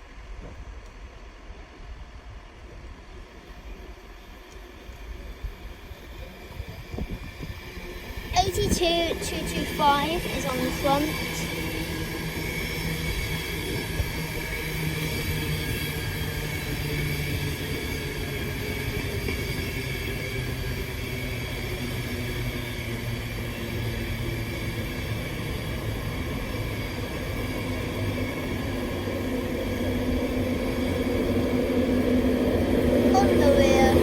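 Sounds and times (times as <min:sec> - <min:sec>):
electric locomotive hum: 0:00.0 - 0:34.0
train coaches rumbling: 0:03.6 - 0:34.0.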